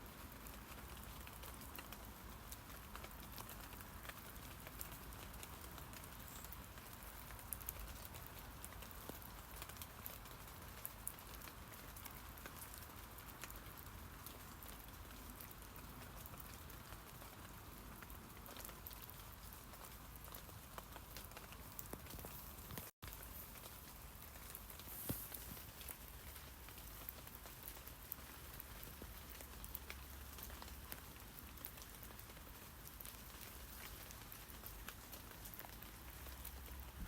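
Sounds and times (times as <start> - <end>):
light rain on leaves: 0.0 - 37.0.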